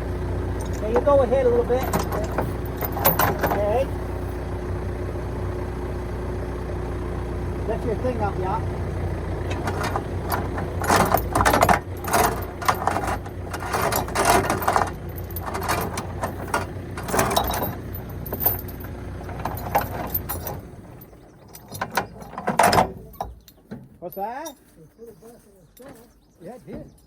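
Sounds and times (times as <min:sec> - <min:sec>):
metal clanks and rattles: 0:00.0 - 0:04.7, 0:07.6 - 0:27.0
diesel excavator engine: 0:00.0 - 0:27.0.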